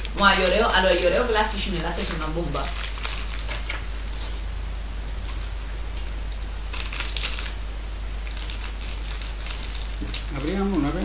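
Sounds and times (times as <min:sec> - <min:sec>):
snack wrapper crinkling: 0:00.0 - 0:04.4, 0:05.3 - 0:11.0
steady low hum: 0:00.0 - 0:11.0.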